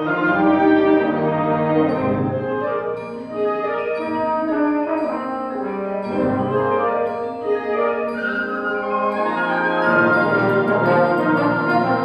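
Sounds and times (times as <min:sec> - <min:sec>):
wind band playing chords: 0:00.0 - 0:12.0.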